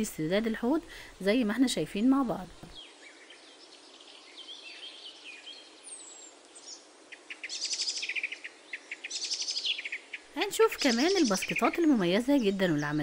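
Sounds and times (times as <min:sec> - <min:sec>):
birds chirping: 0:00.0 - 0:13.0
faint steady hiss: 0:00.0 - 0:13.0.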